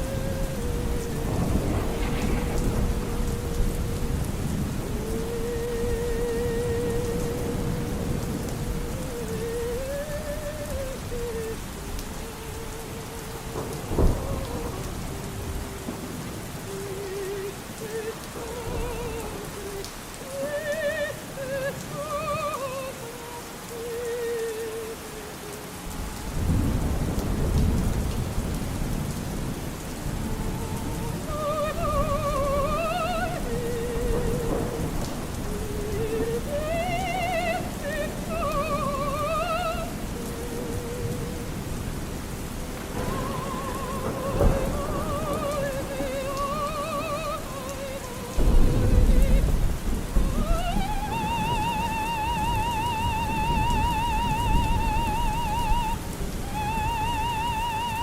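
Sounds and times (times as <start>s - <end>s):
thunder crack: 0.0s - 22.4s, 25.9s - 57.5s
faint opera singing: 0.0s - 58.0s
low thunder rumble: 0.0s - 58.0s
steady rain: 0.0s - 58.0s.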